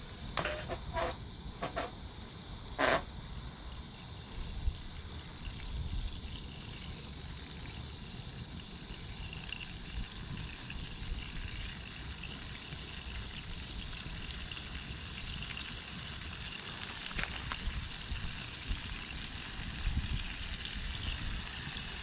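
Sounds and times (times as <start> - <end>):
faint fire crackles: 0.0 - 22.0
meat sizzling over campfire: 0.0 - 22.0.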